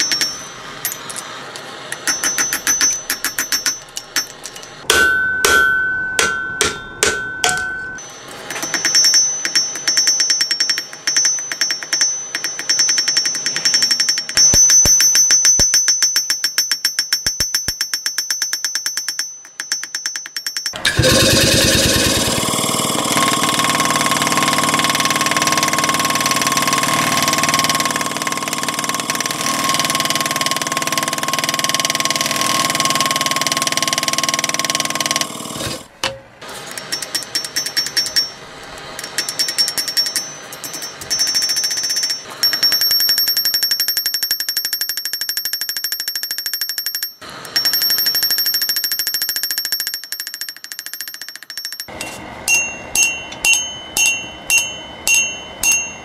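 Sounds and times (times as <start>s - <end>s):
power hammer pounding steel: 0.0s - 46.2s, 46.8s - 56.0s.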